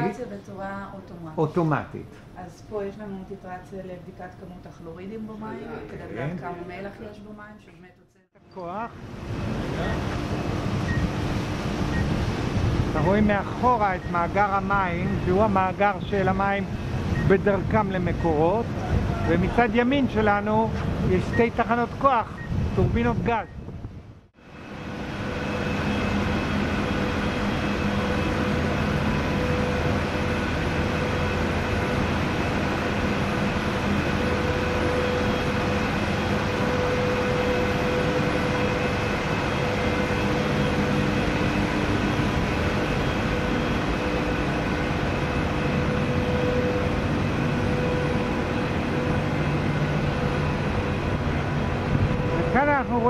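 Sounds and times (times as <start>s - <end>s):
industrial machinery rumble: 0.0s - 53.0s
machinery hum tones: 0.0s - 53.0s.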